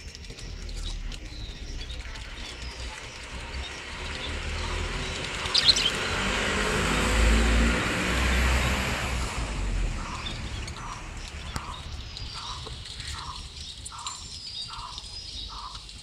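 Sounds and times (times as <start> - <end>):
motor vehicle passing: 0.0 - 15.7
budgerigars chirping: 0.2 - 15.9.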